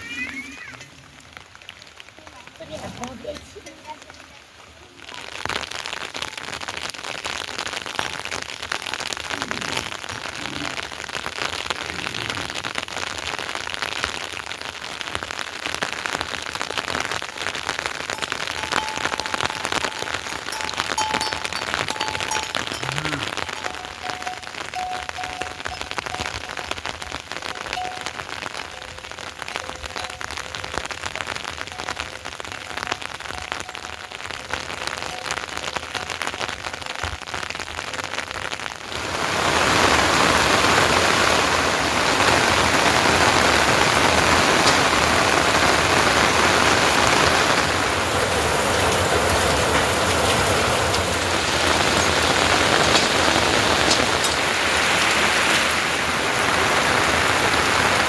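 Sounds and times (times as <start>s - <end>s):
heavy rain hissing: 0.0s - 58.0s
rain drops pattering: 0.0s - 58.0s.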